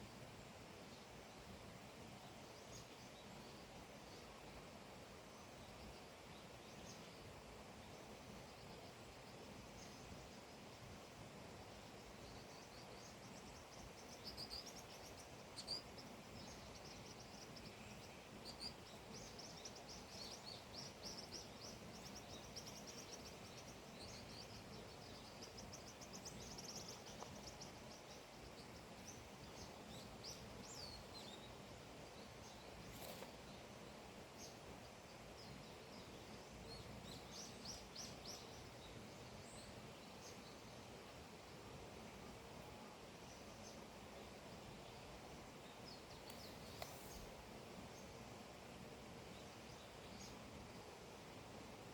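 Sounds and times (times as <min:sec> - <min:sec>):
soft outdoor hiss: 0:00.0 - 0:51.9
songbirds chirping: 0:00.0 - 0:51.9.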